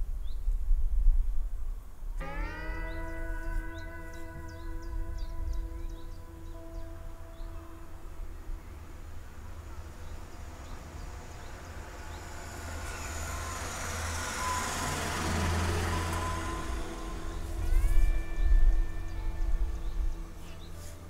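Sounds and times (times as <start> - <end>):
vehicle driving past: 2.2 - 21.0.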